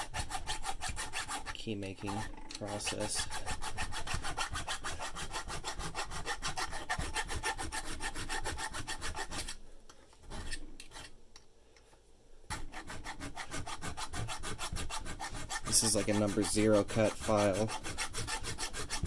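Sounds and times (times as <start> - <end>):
hand file rasping on metal: 0.0 - 9.6, 10.3 - 11.1, 12.5 - 19.0.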